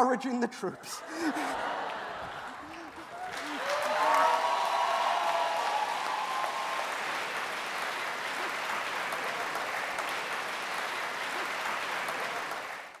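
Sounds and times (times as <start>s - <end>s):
audience applauding: 1.1s - 13.0s.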